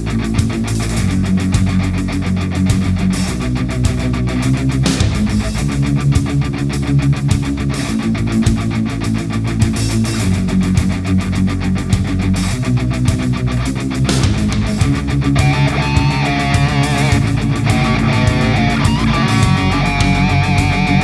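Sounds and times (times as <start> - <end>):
electric guitar rock music: 0.0 - 21.0.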